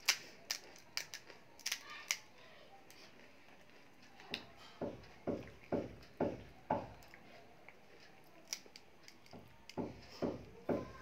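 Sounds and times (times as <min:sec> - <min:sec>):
fried shell crackling: 0:00.0 - 0:11.0.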